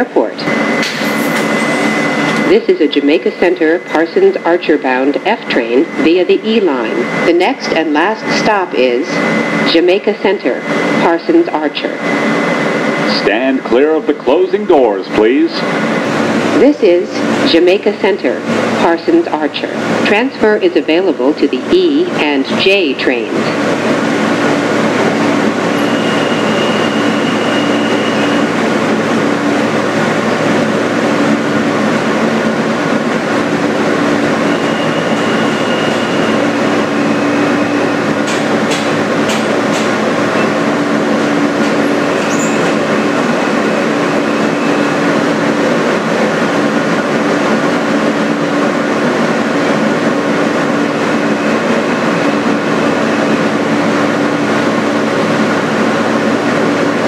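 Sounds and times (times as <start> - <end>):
subway train rumble and hum: 0.0 - 57.0.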